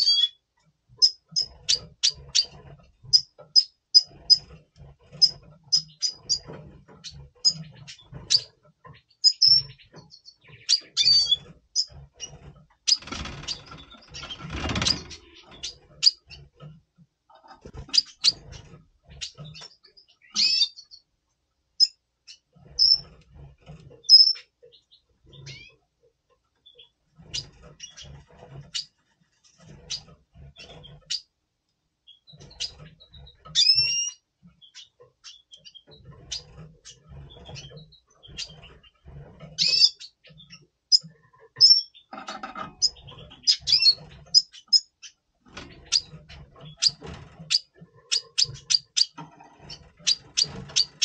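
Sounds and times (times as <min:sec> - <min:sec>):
birds chirping and twittering: 0:00.0 - 0:51.0.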